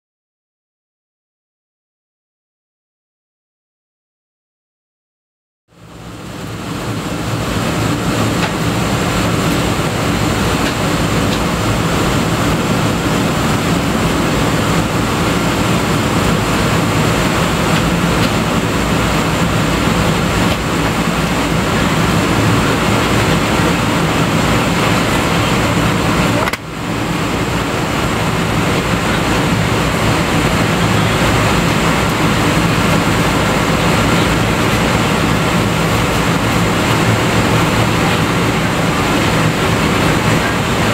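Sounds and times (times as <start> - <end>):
airliner cabin rumble: 5.8 - 40.9.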